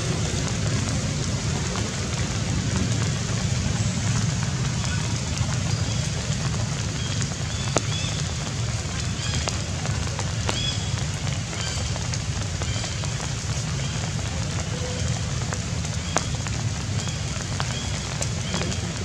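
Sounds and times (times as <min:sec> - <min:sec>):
rain drop ticks: 0:00.0 - 0:19.0
steady rain falling: 0:00.0 - 0:19.0.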